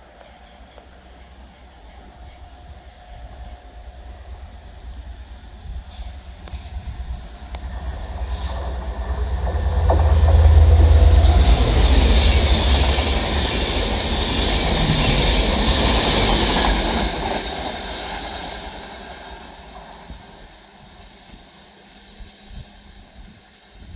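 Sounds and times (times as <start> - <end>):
diesel locomotive engine rumble: 0.0 - 23.9
wheel and rail hiss: 0.0 - 23.9.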